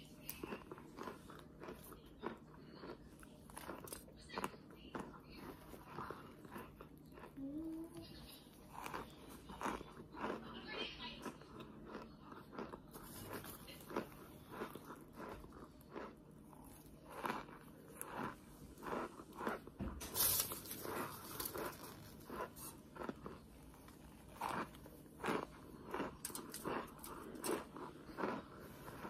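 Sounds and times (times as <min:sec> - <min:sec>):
chewing and crunching: 0:00.0 - 0:29.0.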